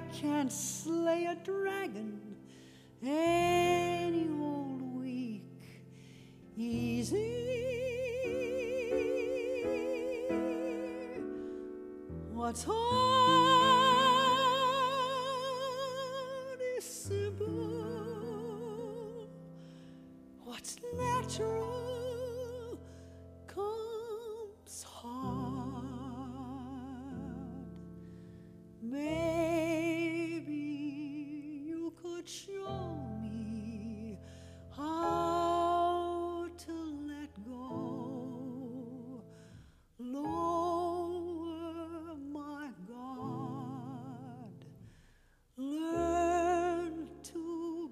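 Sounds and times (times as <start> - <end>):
woman singing a ballad: 0.0 - 19.6, 20.3 - 44.8, 45.5 - 47.9
piano chords: 0.0 - 45.0, 45.8 - 47.9.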